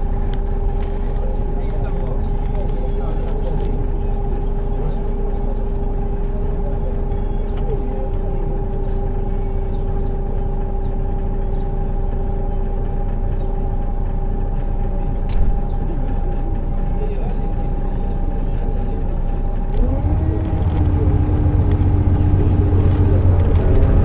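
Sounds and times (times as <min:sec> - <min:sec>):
steady hum: 0:00.0 - 0:24.0
vehicle engine idling: 0:00.0 - 0:24.0.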